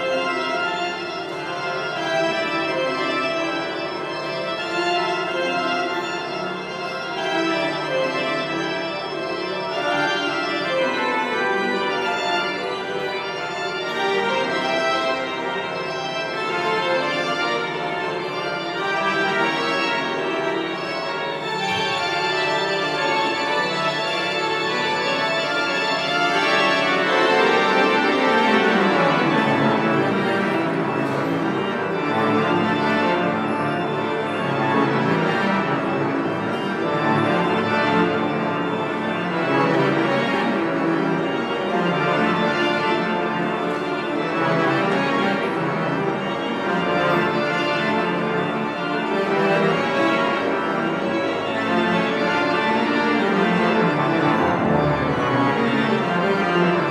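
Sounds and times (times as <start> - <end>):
pipe organ playing: 0.0 - 56.9.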